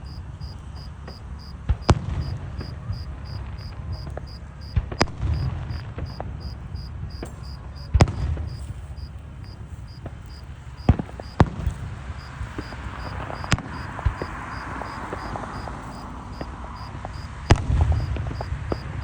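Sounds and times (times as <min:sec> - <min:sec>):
cricket chirping: 0:00.0 - 0:19.0
distant fireworks bangs: 0:00.0 - 0:19.0.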